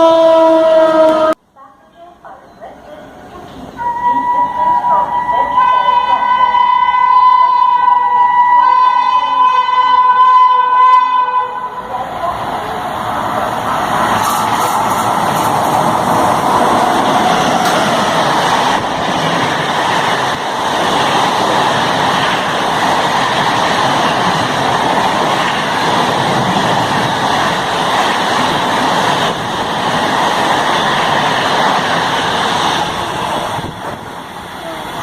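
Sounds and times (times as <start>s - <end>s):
express train passing: 0.0s - 35.0s.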